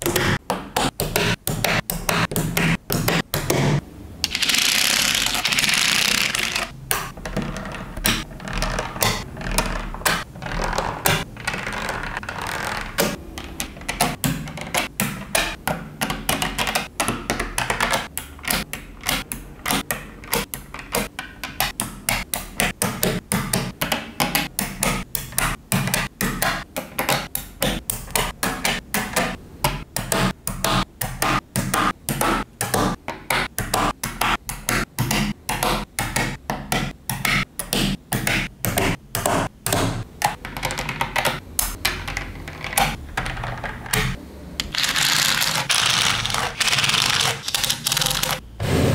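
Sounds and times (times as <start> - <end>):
magnetic balls clicking together: 0.0 - 48.4.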